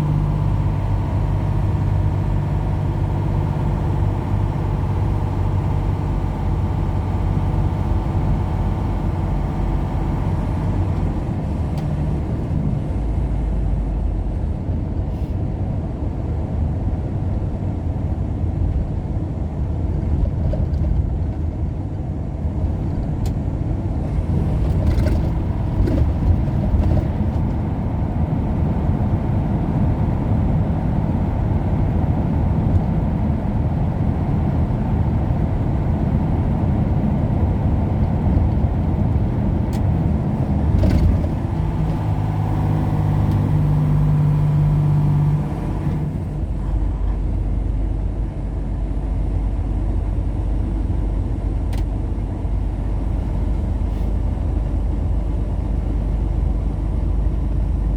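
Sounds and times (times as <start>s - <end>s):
road rumble: 0.0s - 57.9s
vehicle engine hum: 0.0s - 57.9s.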